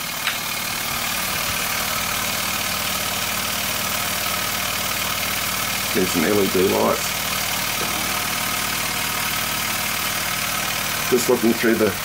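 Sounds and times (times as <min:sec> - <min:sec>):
steam engine running: 0:00.6 - 0:12.0.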